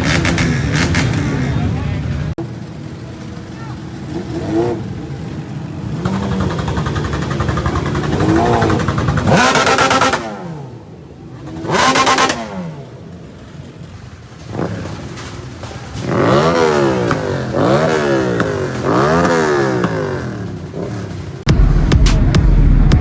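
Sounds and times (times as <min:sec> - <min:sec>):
motorcycles revving and passing: 0:00.0 - 0:23.0.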